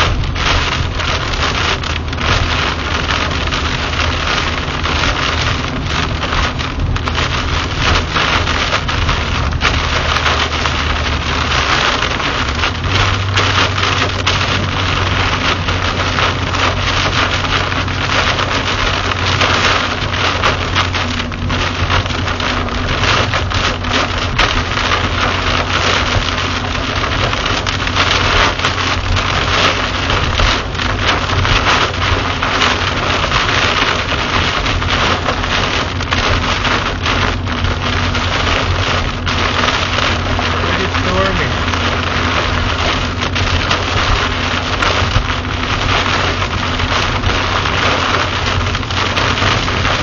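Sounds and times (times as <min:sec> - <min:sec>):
car and tyres humming: 0:00.0 - 0:50.0
heavy rain on car roof: 0:00.0 - 0:50.0.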